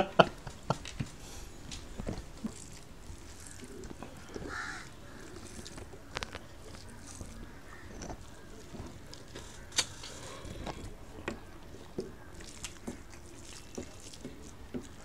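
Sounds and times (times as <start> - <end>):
fingers working rice: 2.1 - 15.0.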